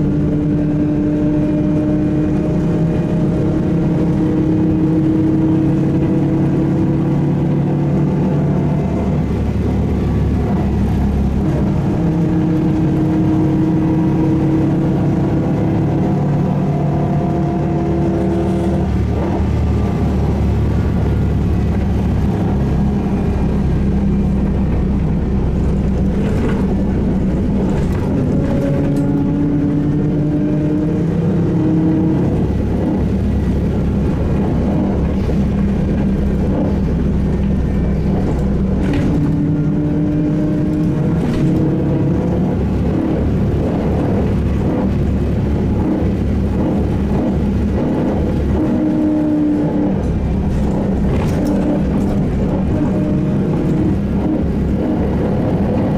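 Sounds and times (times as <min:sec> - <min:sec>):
trolleybus rumble: 0:00.0 - 0:55.9.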